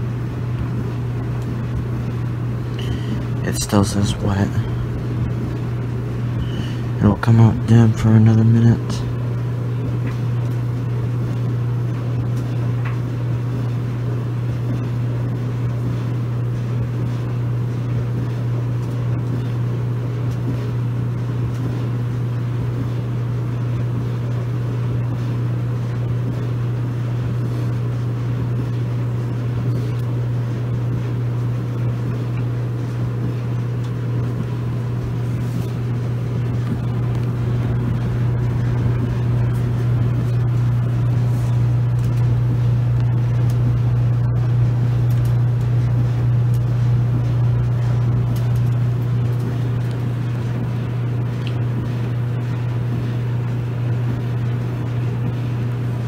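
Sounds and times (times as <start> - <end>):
clothes dryer humming: 0.0 - 56.0.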